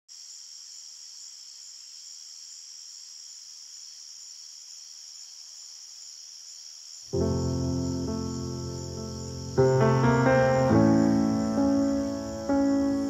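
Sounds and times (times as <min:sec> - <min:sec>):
high-pitched chirring hiss: 0:00.1 - 0:13.0.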